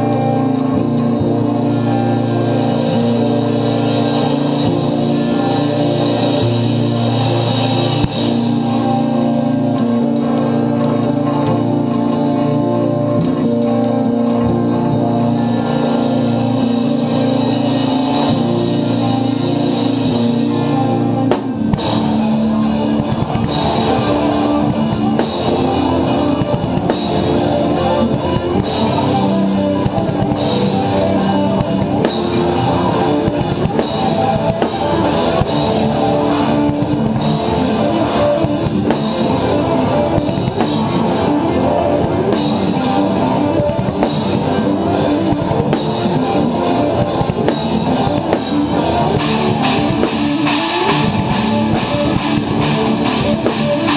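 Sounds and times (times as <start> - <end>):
distorted electric guitars: 0.0 - 53.9
drum kit: 0.0 - 53.9.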